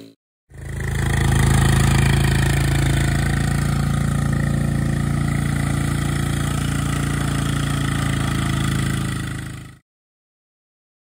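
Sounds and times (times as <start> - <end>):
utility vehicle engine running: 0.5 - 9.8.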